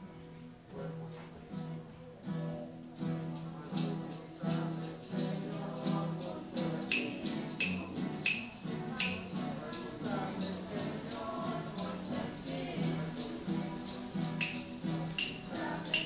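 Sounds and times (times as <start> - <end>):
acoustic guitar strummed: 1.6 - 16.0
hand percussion beat: 2.8 - 16.0.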